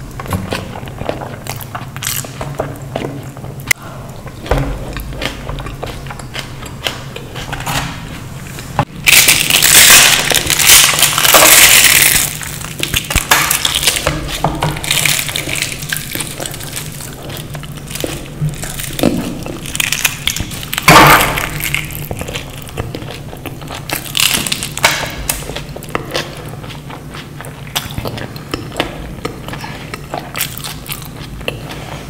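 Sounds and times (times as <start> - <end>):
person chewing and crunching food: 0.0 - 32.0.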